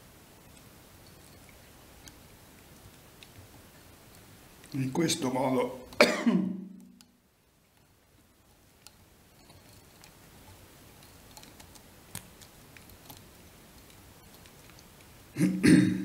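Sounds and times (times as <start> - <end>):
faint light clicks and ticks: 0.4 - 5.1, 6.8 - 15.2.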